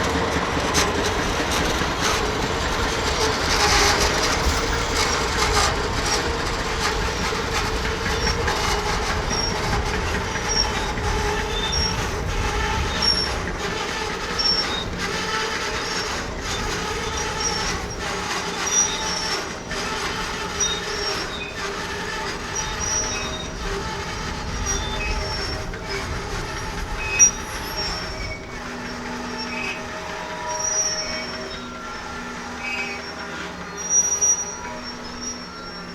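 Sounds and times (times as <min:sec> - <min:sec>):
freight train cars rumbling: 0:00.0 - 0:35.9
high-pitched wheel squeals: 0:00.0 - 0:35.9.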